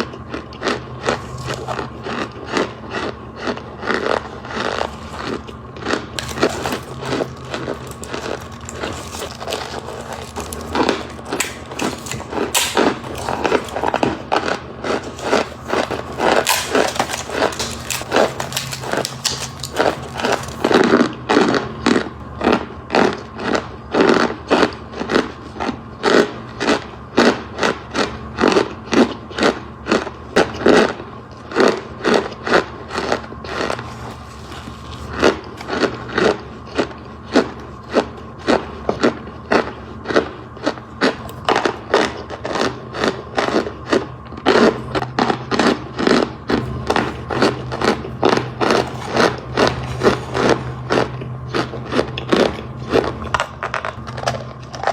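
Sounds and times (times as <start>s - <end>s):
marshmallows being crushed: 0.0s - 21.6s, 32.0s - 54.9s.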